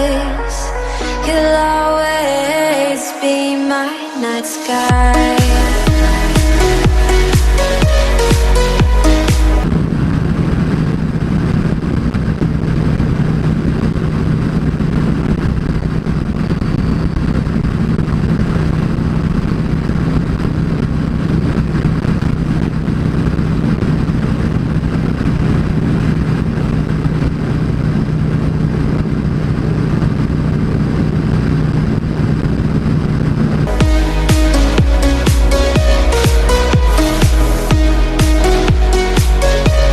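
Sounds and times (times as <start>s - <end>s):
wind and road noise: 0.0s - 39.9s
motorcycle engine running: 4.9s - 39.9s.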